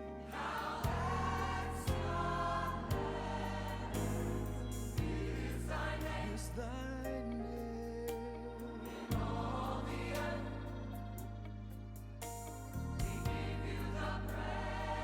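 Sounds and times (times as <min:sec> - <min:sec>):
voices singing held notes: 0:00.2 - 0:11.4, 0:13.0 - 0:15.0.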